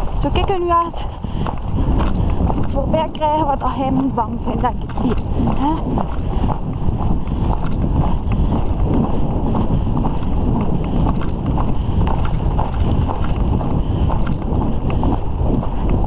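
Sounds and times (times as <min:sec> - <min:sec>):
horse hooves knocking on track: 0:00.0 - 0:16.0
wind buffeting microphone: 0:00.0 - 0:16.0.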